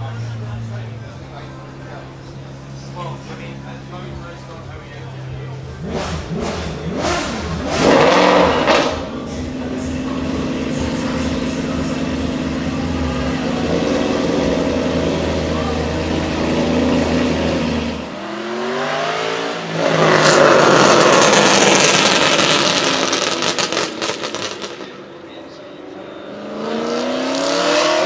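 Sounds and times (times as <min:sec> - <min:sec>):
exhaust crackles: 0:00.0 - 0:18.2, 0:19.6 - 0:25.1
car engine revving: 0:00.0 - 0:28.0.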